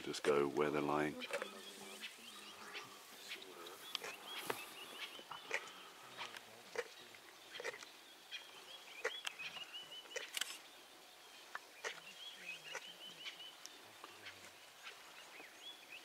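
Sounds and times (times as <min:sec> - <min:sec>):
bird chirping: 0:00.1 - 0:16.0.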